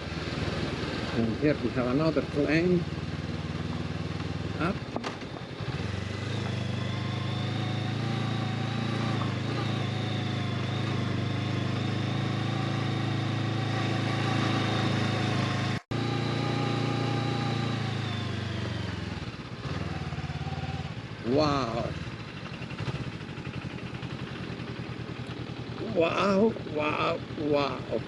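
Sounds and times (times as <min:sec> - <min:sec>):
motorcycle engine while riding: 0:00.0 - 0:28.0.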